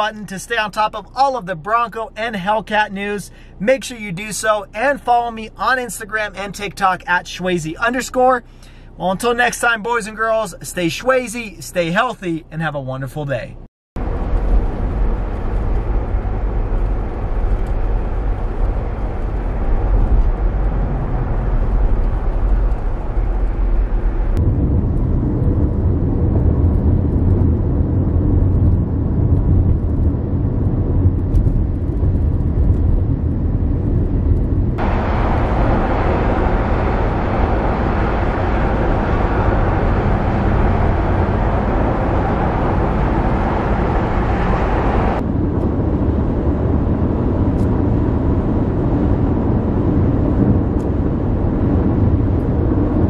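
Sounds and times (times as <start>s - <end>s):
car road and wind noise: 0.0s - 53.0s.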